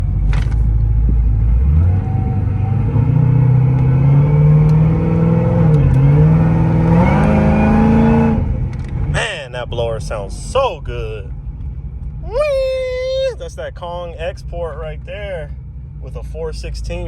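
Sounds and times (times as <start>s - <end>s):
car engine running: 0.0s - 17.0s
supercharger whine: 0.0s - 17.0s.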